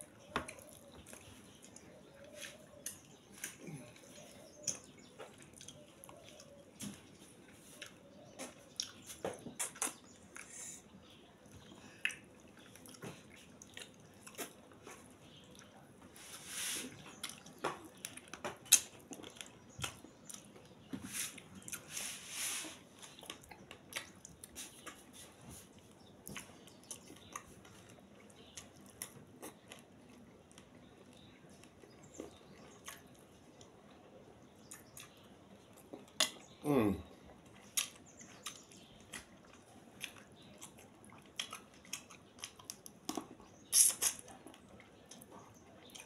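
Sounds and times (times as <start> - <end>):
person chewing and lip-smacking: 0.0 - 10.8, 11.6 - 15.8, 17.0 - 20.7, 23.0 - 33.8, 34.6 - 36.6, 37.3 - 46.0.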